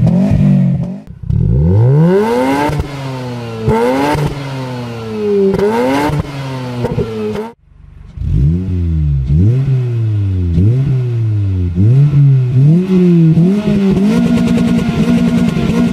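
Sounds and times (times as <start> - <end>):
rotary engine rev: 0.0 - 7.6, 8.2 - 15.9
car engine revving: 0.0 - 15.9.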